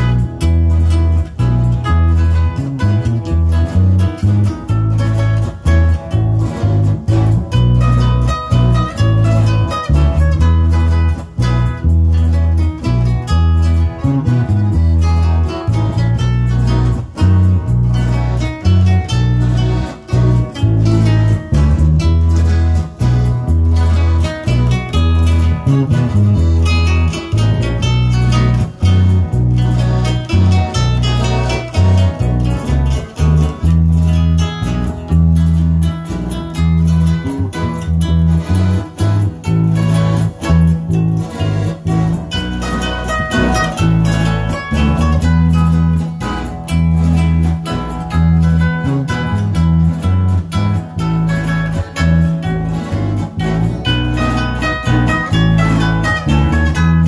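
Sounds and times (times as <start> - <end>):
accordion: 0.0 - 57.0
acoustic guitars picking and strumming: 0.0 - 57.0
bass line: 0.0 - 57.0
sticks striking a rhythm: 0.0 - 57.0.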